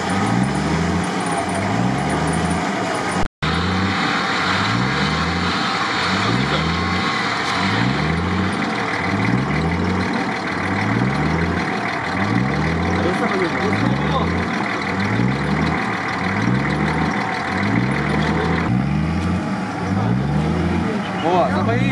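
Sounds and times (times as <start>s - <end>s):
off-road vehicle engine under load: 0.0s - 21.9s.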